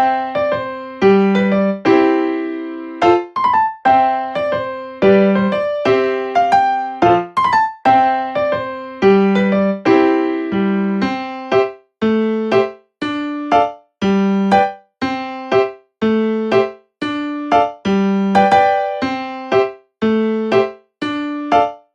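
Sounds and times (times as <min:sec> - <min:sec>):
piano music: 0:00.0 - 0:21.9.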